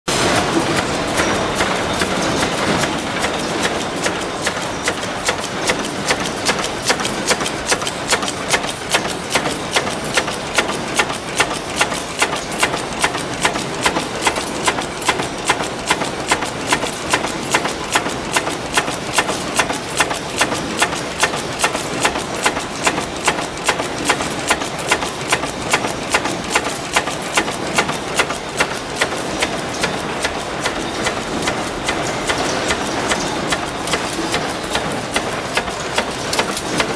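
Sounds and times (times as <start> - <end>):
punch press stamping: 0.1 - 36.9.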